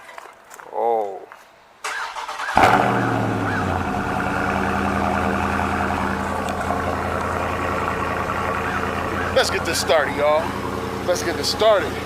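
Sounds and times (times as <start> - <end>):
car engine starting and idling: 1.8 - 12.0.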